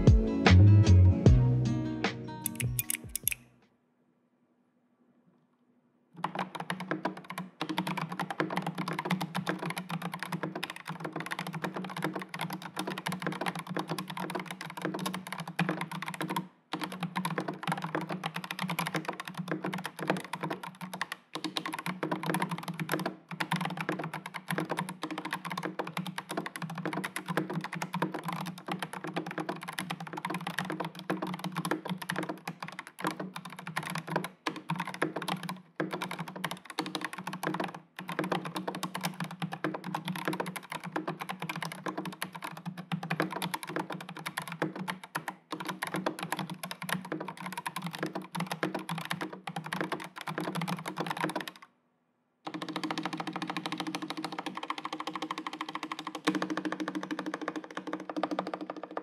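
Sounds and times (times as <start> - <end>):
mechanical keyboard typing: 2.5 - 3.4, 6.2 - 51.7, 52.5 - 59.0.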